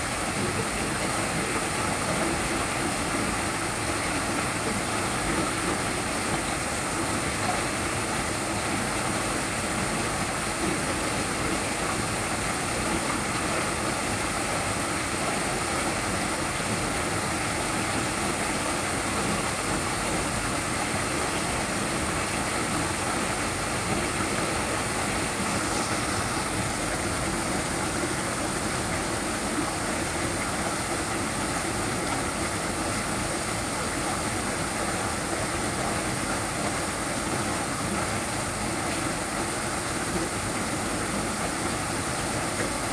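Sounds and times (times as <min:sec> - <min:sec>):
small waterfall splashing: 0:00.0 - 0:42.9.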